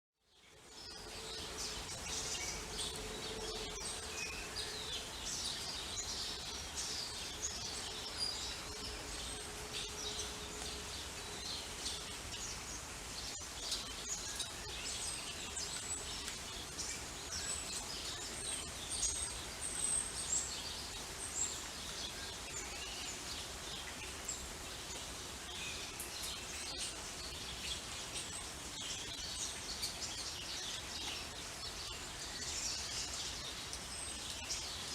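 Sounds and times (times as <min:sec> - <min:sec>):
steady rain falling: 0:00.4 - 0:34.9
birds chirping and singing: 0:00.6 - 0:34.9.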